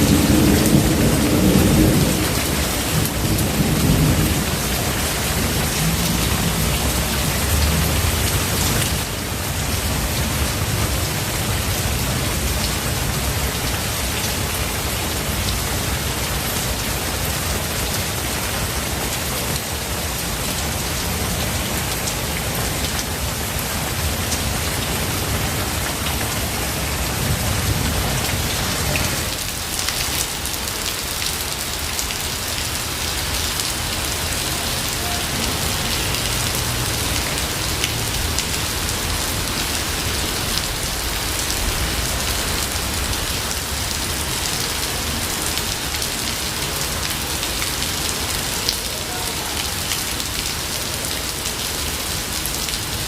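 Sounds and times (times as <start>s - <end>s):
steady rain in forest: 0.0s - 53.0s.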